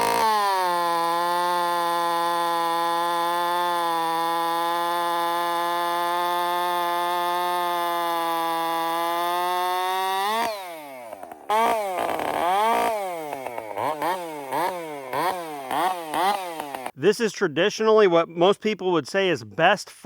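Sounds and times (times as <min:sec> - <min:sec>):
chainsaw cutting: 0:00.0 - 0:17.0
chainsaw throttle blips: 0:00.0 - 0:17.0.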